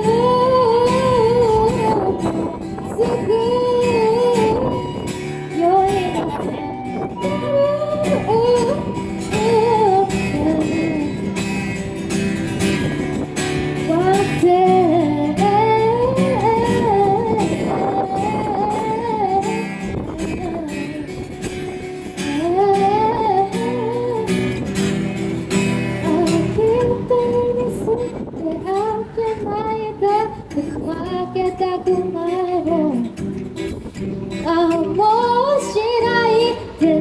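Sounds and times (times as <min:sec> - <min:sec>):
strummed guitar: 0:00.0 - 0:37.0
woman singing: 0:00.0 - 0:37.0.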